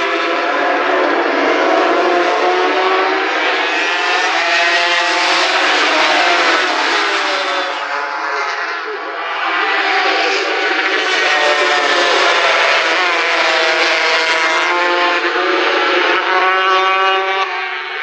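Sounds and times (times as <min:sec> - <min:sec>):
racing motorcycles at high revs: 0:00.0 - 0:18.0.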